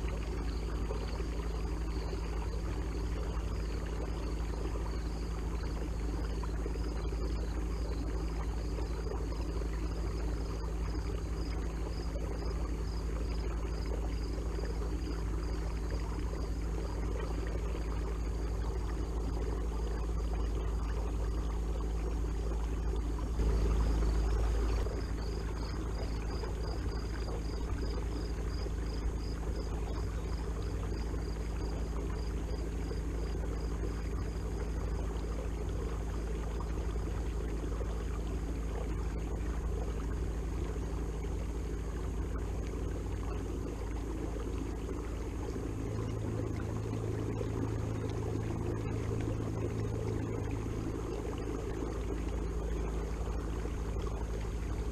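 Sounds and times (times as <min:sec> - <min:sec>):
faint high pulsing tone: 0:00.0 - 0:54.9.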